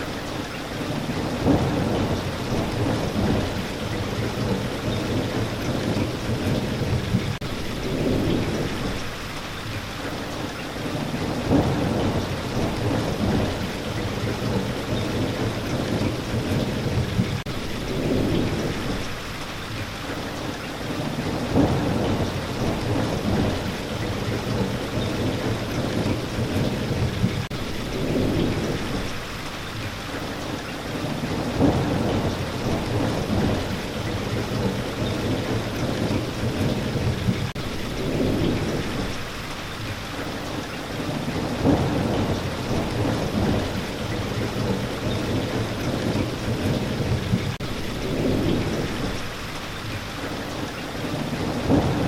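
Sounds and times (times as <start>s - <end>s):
steady rain falling: 0.0s - 52.0s
thunder rolling: 0.8s - 9.2s, 10.9s - 19.2s, 21.0s - 29.3s, 30.8s - 39.3s, 40.9s - 49.9s, 51.1s - 52.0s.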